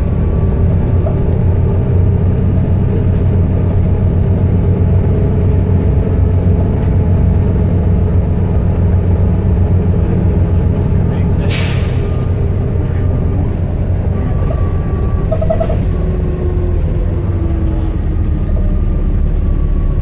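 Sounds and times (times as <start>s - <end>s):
bus diesel engine rumble: 0.0s - 20.0s
road noise: 0.0s - 20.0s.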